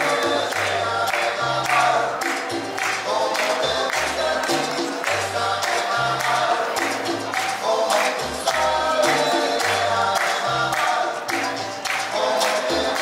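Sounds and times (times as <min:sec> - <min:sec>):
music with beat and bass: 0:00.0 - 0:13.0
person singing: 0:00.0 - 0:13.0.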